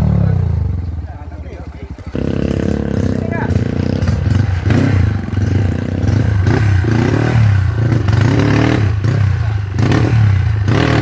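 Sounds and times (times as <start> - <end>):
dirt bike engine revving: 1.9 - 11.0.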